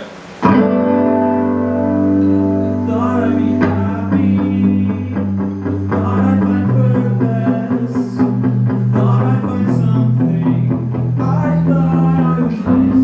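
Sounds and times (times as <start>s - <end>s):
guitar and bass chord ringing: 0.4s - 13.0s.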